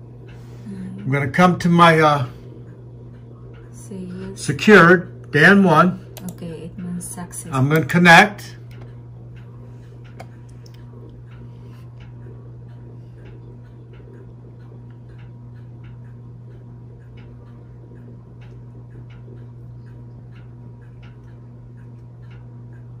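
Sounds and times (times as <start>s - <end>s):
irregular ticks and clicks: 0.0s - 23.0s
low hum: 0.0s - 23.0s.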